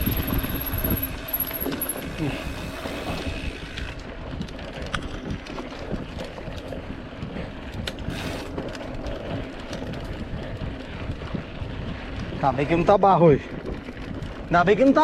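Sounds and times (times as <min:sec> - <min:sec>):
bike rattling: 0:00.0 - 0:15.0
tyres rolling on dirt: 0:00.0 - 0:15.0
wind rushing over microphone: 0:00.0 - 0:15.0.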